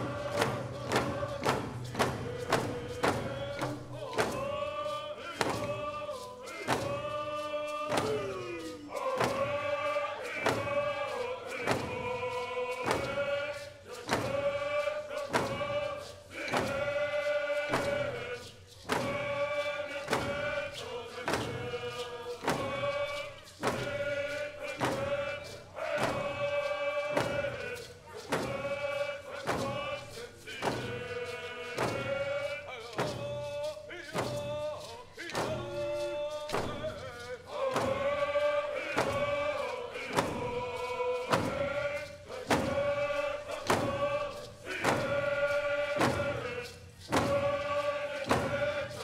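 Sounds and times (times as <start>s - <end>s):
group singing in unison: 0.0s - 49.0s
pounding drum beat: 0.0s - 49.0s.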